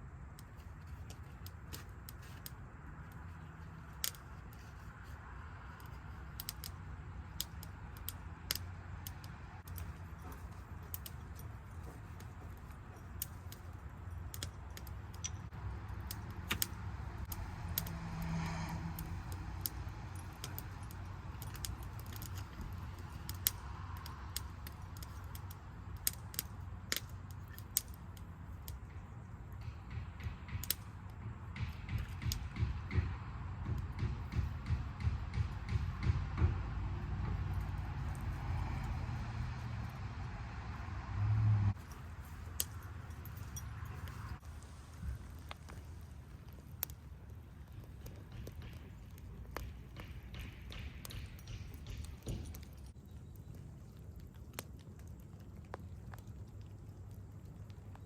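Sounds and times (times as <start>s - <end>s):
campfire crackling and popping: 0.0s - 58.0s
fire low rumble: 0.0s - 58.0s.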